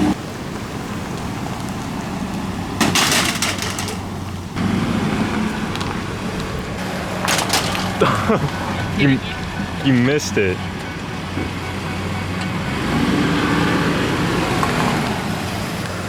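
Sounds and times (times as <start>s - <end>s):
crackling and crunching under truck: 0.0s - 16.0s
truck engine running: 0.0s - 16.0s.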